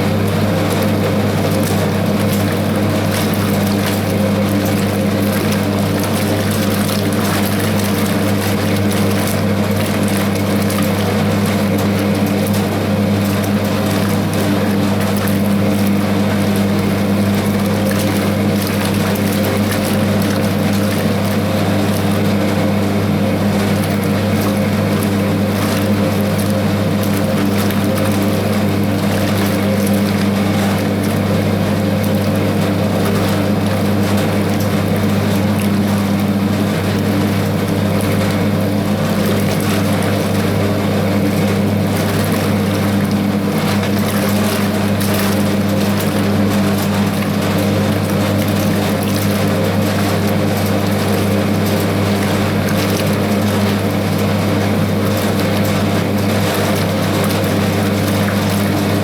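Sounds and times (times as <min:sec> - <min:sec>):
washing machine churning: 0:00.0 - 0:59.0
washing machine motor hum: 0:00.0 - 0:59.0.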